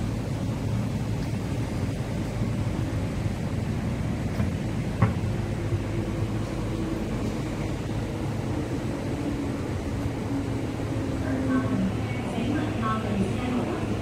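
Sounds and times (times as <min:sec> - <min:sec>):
electric train hum and rumble: 0:00.0 - 0:14.0.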